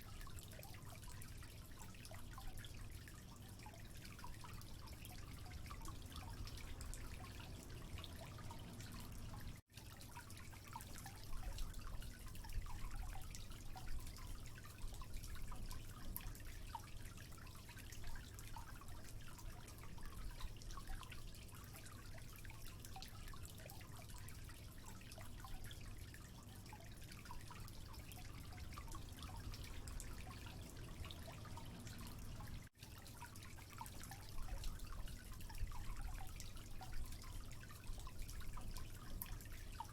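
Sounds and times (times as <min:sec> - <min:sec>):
water dripping: 0:00.0 - 0:39.9
water trickling with low rush: 0:00.0 - 0:39.9.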